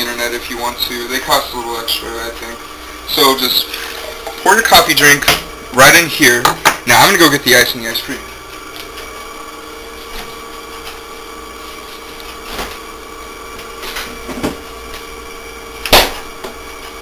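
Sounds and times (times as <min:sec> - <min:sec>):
steady fridge hum: 0:00.0 - 0:17.0.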